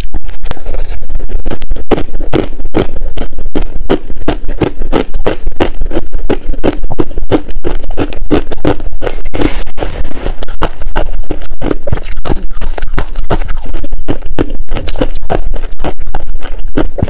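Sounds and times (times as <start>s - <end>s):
ice being chewed: 1.5s - 17.0s.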